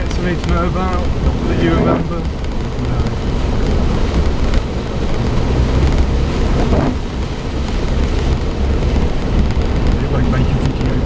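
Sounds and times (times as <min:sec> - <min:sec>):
car engine and tyre rumble: 0:00.0 - 0:11.0
rain on car body: 0:00.0 - 0:11.0.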